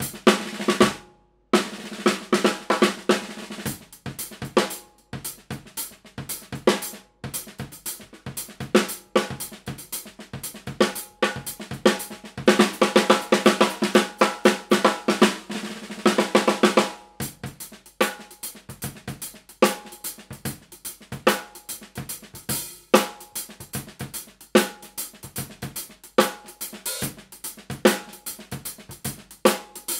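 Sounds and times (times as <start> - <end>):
snare drum roll: 0.0 - 1.0, 1.6 - 29.9
snare drum played with sticks: 0.0 - 29.9.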